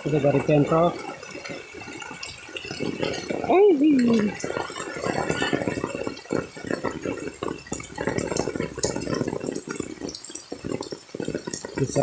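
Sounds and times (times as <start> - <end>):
heavy rain on a tarp: 0.0 - 12.0.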